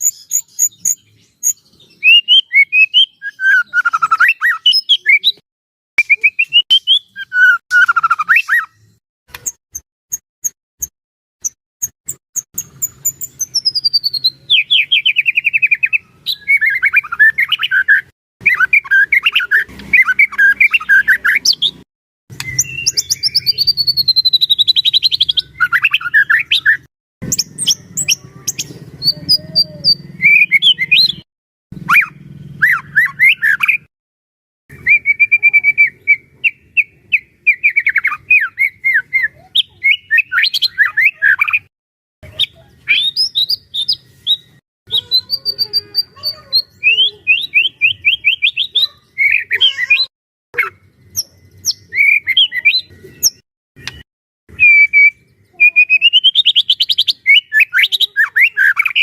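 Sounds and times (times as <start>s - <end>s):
songbird singing: 0.0s - 5.4s, 6.0s - 9.6s, 10.4s - 33.9s, 34.7s - 59.0s.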